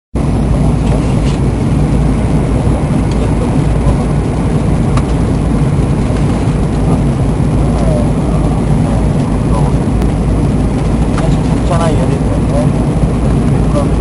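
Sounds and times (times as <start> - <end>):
airliner cabin rumble: 0.2 - 14.0.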